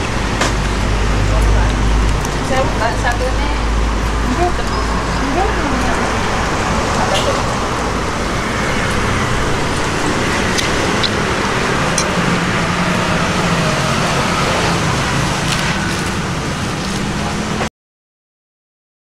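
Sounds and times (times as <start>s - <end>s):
passing vehicles humming: 0.0s - 17.7s.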